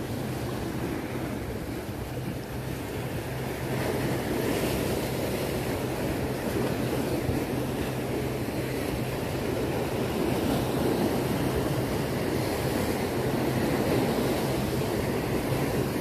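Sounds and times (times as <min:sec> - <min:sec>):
surf on rocky shore: 0:00.0 - 0:16.0
wind on microphone: 0:00.0 - 0:16.0.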